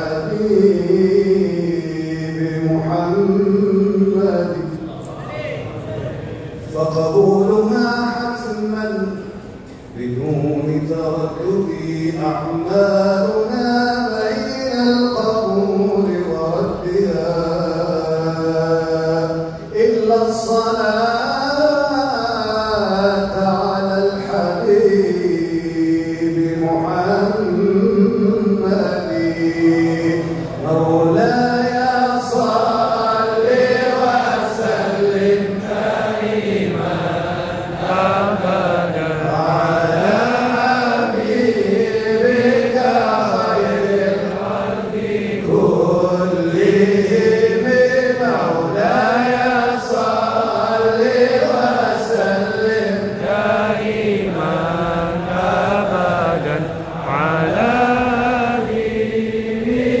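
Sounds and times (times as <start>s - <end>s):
man chanting over loudspeakers: 0.0s - 60.0s.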